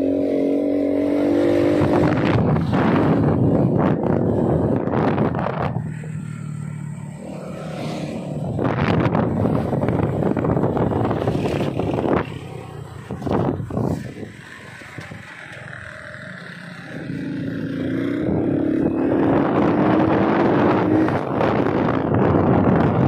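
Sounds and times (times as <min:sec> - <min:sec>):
motorcycle engine: 0:00.0 - 0:23.0
wind rushing on microphone: 0:01.0 - 0:06.8, 0:07.6 - 0:15.8, 0:16.9 - 0:23.0.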